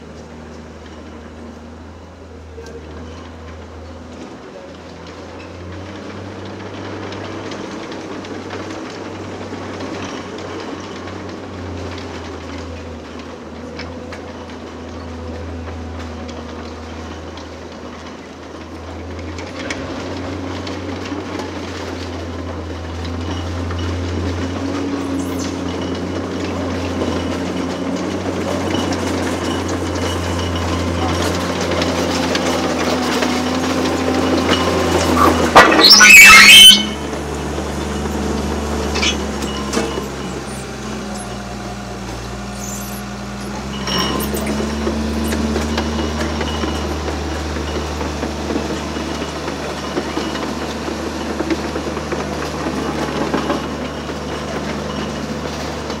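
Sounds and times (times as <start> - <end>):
diesel machinery engine hum: 0.0 - 56.0.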